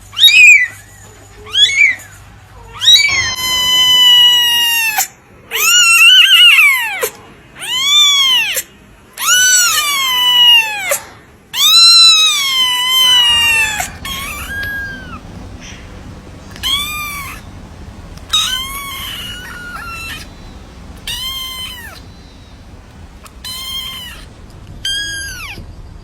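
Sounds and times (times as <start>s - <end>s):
faint low rumble: 2.0s - 8.6s, 11.5s - 26.0s
kittens meowing: 2.7s - 25.6s.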